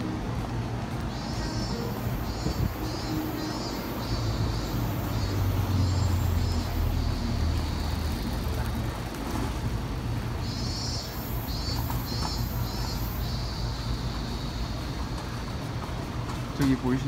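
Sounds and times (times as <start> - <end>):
city street traffic: 0.0 - 17.0
vehicle engine humming: 0.0 - 17.0.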